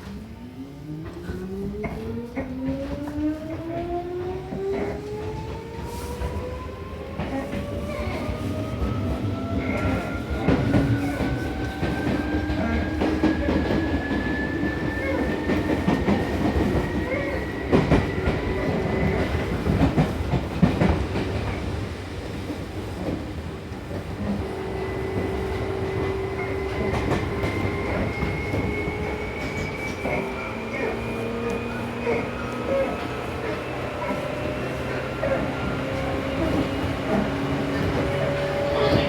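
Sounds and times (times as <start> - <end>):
wheel and rail rumble: 0.0 - 39.0.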